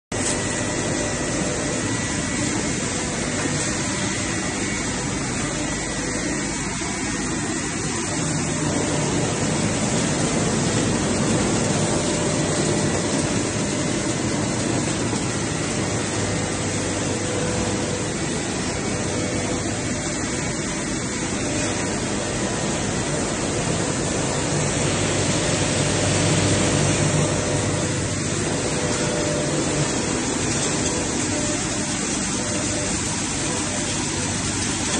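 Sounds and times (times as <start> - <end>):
plastic shredder running: 0.1 - 34.9.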